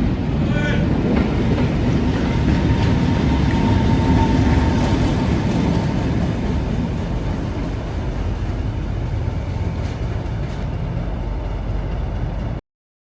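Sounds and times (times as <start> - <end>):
diesel locomotive rumble: 0.0 - 12.6.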